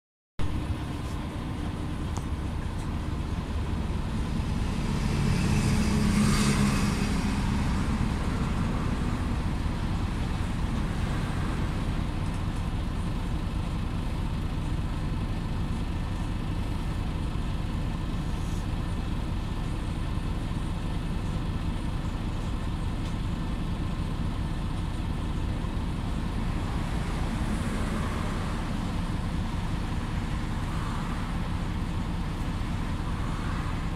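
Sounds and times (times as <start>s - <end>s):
bus engine drone inside cabin: 0.4s - 33.9s.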